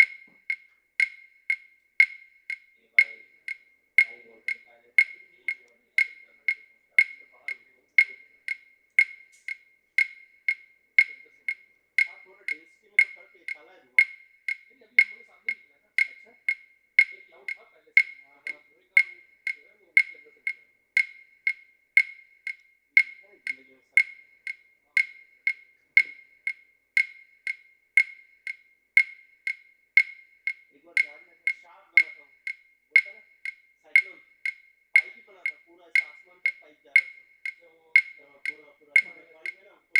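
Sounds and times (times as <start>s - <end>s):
clock ticking: 0.0s - 39.9s
sharp clicking: 0.0s - 39.9s.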